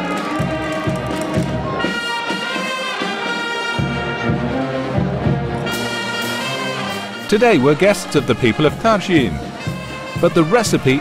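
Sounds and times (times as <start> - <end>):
brass band playing chords: 0.0 - 11.0.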